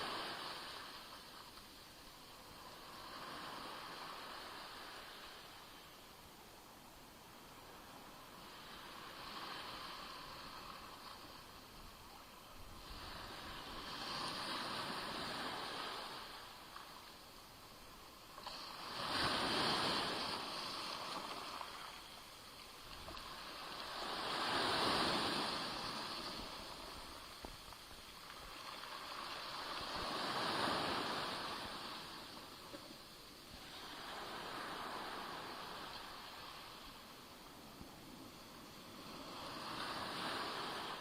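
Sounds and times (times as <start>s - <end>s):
small waves washing onto shore: 0.0s - 41.0s.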